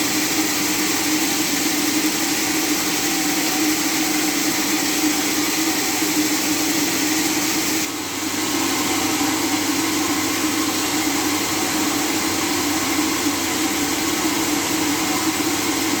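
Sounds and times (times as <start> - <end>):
sawmill machinery humming: 0.0 - 16.0.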